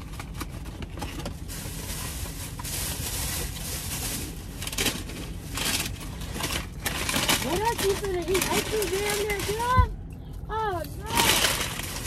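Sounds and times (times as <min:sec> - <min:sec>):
packaging rustling and crinkling: 0:00.0 - 0:09.9, 0:10.9 - 0:12.0
low steady rumble: 0:00.0 - 0:12.0.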